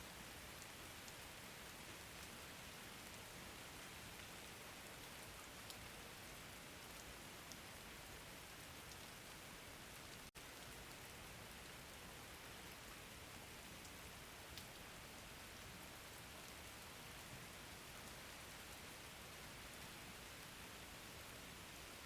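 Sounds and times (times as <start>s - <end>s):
soft hiss of rain: 0.0s - 22.0s.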